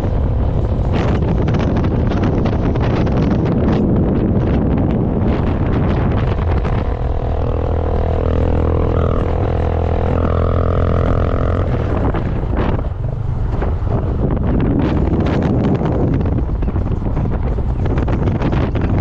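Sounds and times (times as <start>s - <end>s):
droning engine hum: 0.0s - 19.0s
wind buffeting microphone: 0.0s - 19.0s.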